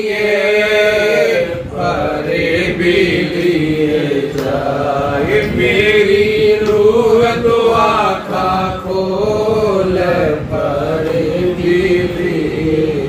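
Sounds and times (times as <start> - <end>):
men singing devotional song: 0.0 - 13.0.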